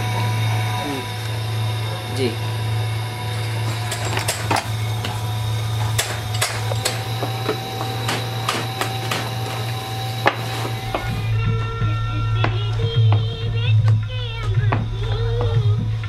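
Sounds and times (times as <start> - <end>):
roller machine humming: 0.0 - 16.0.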